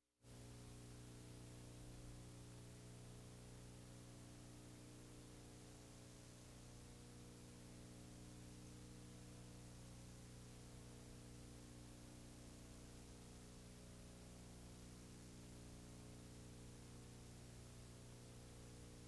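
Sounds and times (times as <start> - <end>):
steady electrical hum: 0.3 - 19.0.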